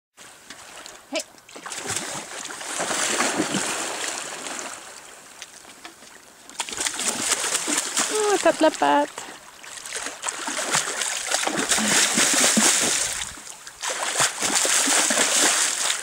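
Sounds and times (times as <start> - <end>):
seals splashing in water: 1.5 - 5.2, 6.5 - 16.0.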